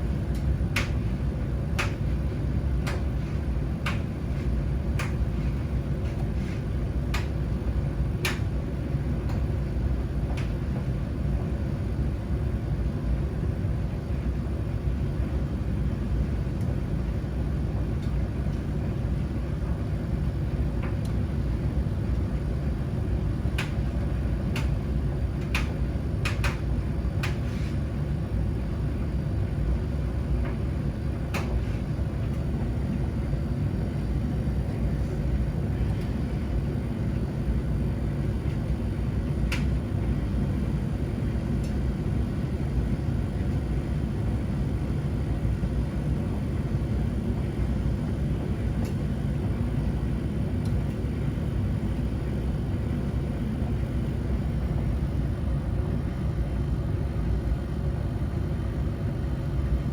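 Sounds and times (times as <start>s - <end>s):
washing machines rumbling: 0.0s - 59.9s.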